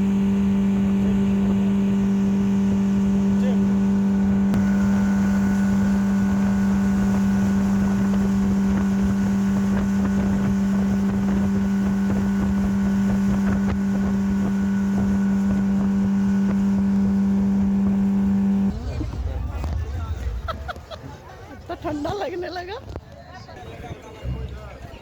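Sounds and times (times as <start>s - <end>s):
speedboat engine droning: 0.0s - 21.8s
wind buffeting microphone: 0.0s - 25.0s.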